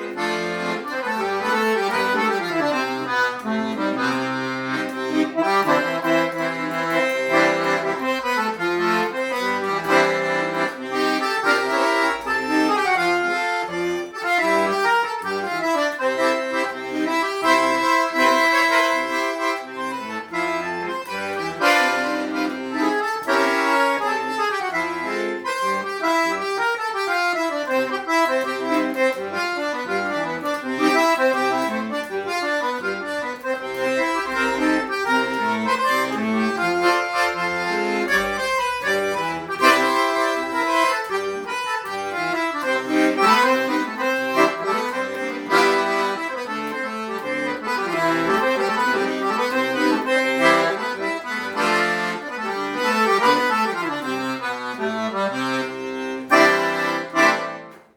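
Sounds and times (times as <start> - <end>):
accordion playing folk melody: 0.0 - 57.9.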